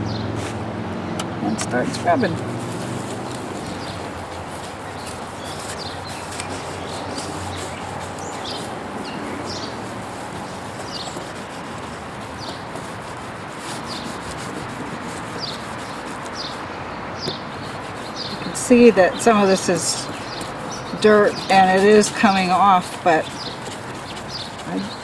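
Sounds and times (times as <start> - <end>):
lemon scrubbing plastic lens: 1.2 - 25.0.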